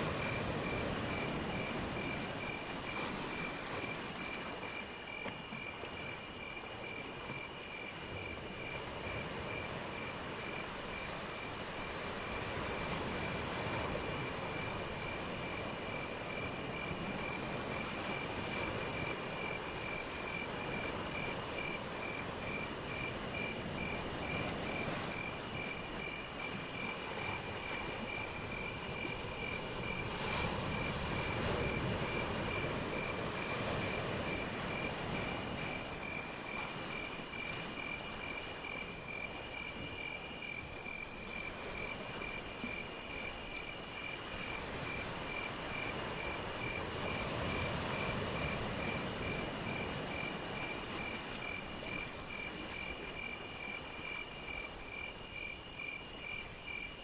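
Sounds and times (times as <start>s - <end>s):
crickets pulsing chirp: 0.0s - 57.0s
high insect trill: 0.0s - 57.0s.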